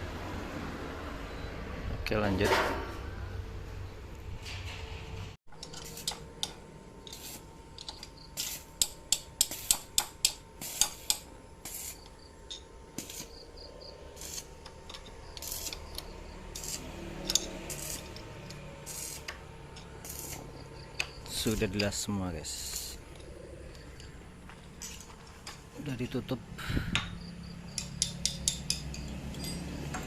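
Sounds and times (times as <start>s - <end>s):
faint steady background noise: 0.0s - 30.0s.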